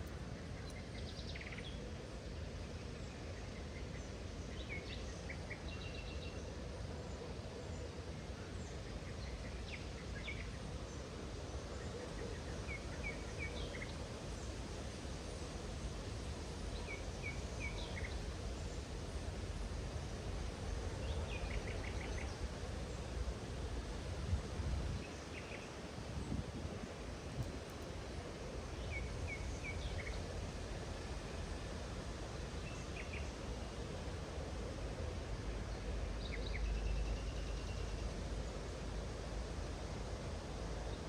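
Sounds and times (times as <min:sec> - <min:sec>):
low background noise: 0:00.0 - 0:41.0.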